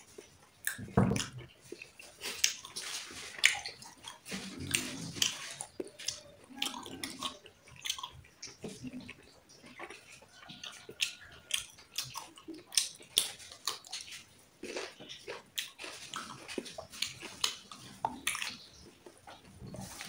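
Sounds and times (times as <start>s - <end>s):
wet chewing and smacking: 0.0s - 20.0s.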